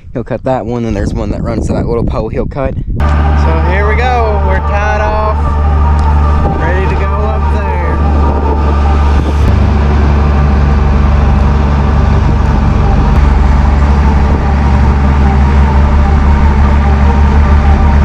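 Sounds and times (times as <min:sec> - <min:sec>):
excavator diesel engine: 0:03.0 - 0:18.0.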